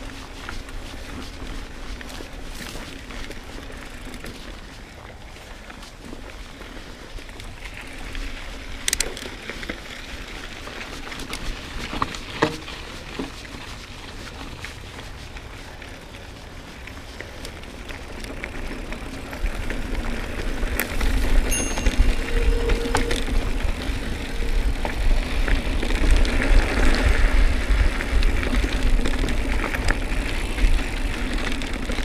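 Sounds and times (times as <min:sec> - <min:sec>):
bike clicks and rattles: 0:00.0 - 0:32.0
bike tyres on dry dirt: 0:00.0 - 0:32.0
wind rumble on microphone: 0:00.0 - 0:32.0.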